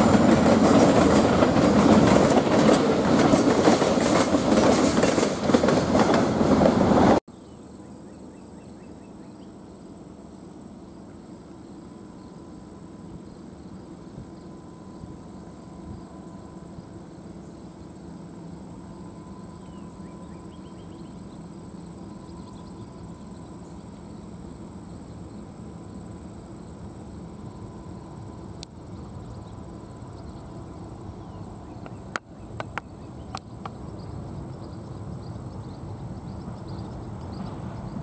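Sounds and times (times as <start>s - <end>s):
insects trilling: 7.3s - 38.0s.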